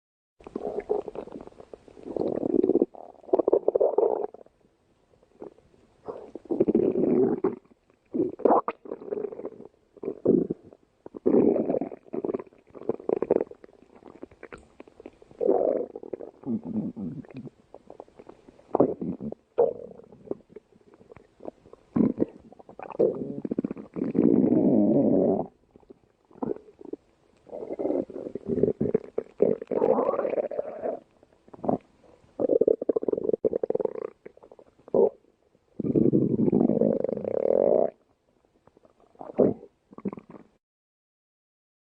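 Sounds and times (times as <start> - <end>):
stomach growling: 0.4 - 4.5, 5.4 - 35.2, 35.8 - 38.0, 38.6 - 40.6.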